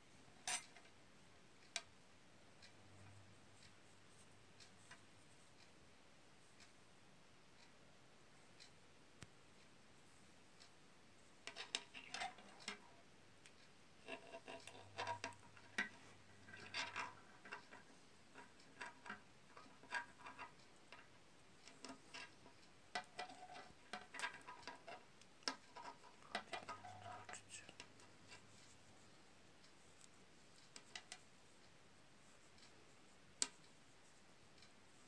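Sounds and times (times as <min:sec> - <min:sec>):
knitting needles clicking: 0:00.4 - 0:01.0, 0:01.6 - 0:02.0, 0:02.6 - 0:05.7, 0:08.6 - 0:35.0.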